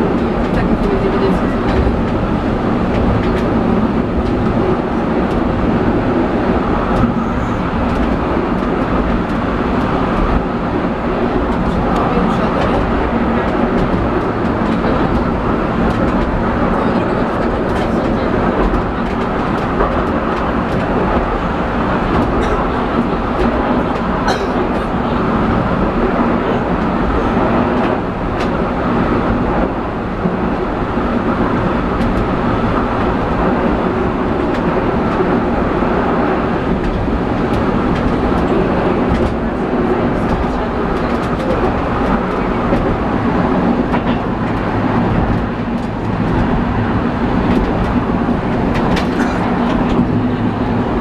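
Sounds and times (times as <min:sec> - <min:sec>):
funicular car rolling rumble: 0:00.0 - 0:51.0.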